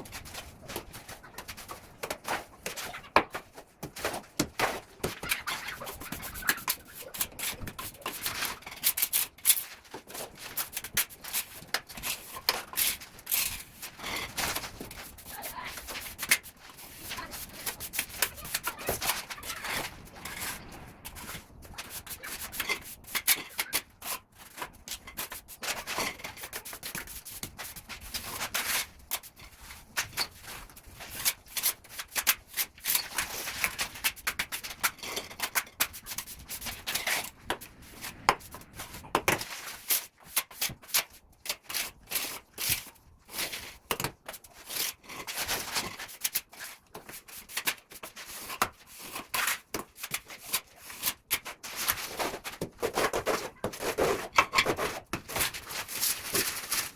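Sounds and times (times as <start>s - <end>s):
trowel scraping mortar: 0.0s - 56.9s.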